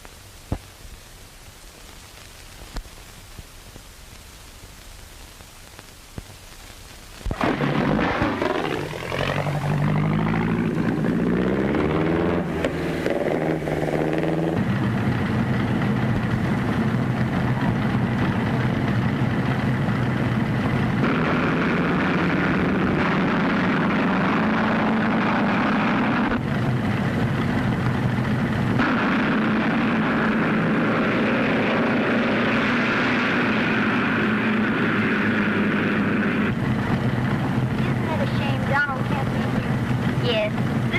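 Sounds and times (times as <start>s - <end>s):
film soundtrack hiss: 0.0s - 40.9s
race car engines accelerating: 7.3s - 40.9s.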